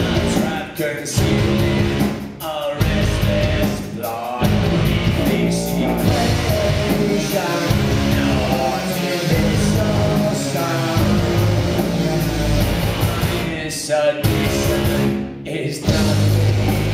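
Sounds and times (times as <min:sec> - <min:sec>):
live rock band playing: 0:00.0 - 0:16.9
man singing lead vocal: 0:00.0 - 0:16.9.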